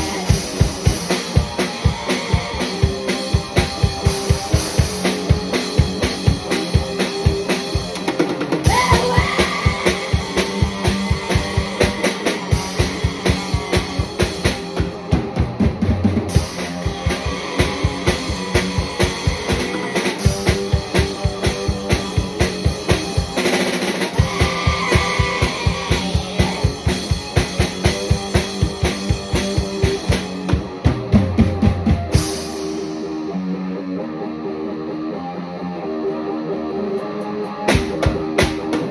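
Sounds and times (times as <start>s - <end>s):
rapid bass drum strokes: 0.0s - 33.2s
electric guitar rock playing: 0.0s - 38.9s.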